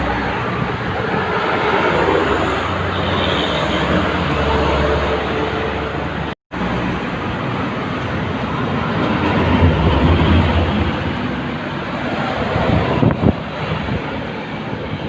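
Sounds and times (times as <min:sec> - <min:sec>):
heavy trucks on highway: 0:00.0 - 0:15.0.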